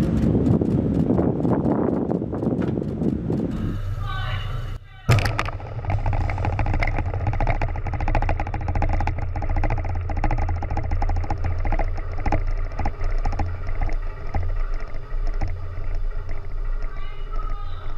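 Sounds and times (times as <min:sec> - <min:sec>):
fast rattling clatter: 0:00.0 - 0:17.9
low mechanical running noise: 0:00.0 - 0:17.9.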